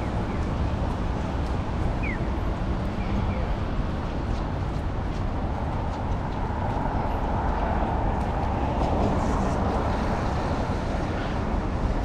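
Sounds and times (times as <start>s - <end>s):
traffic on wet road: 0.0s - 12.0s.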